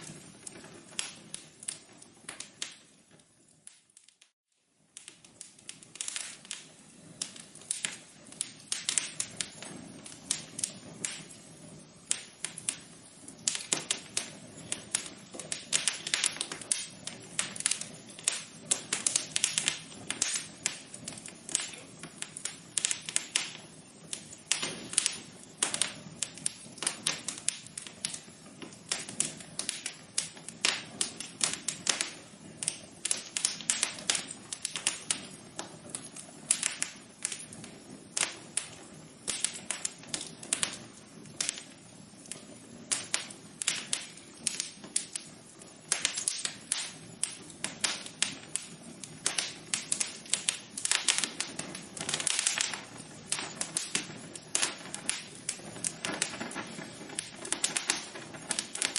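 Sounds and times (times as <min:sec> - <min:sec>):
faint steady hiss: 0:00.0 - 0:58.9
wood fire crackling: 0:00.0 - 0:58.9.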